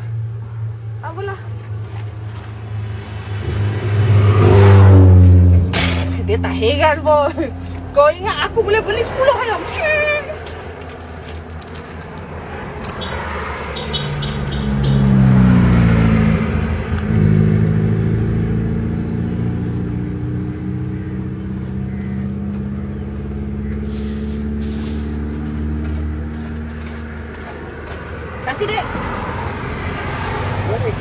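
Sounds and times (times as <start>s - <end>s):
vehicle engine running: 0.0s - 12.1s, 13.8s - 28.8s.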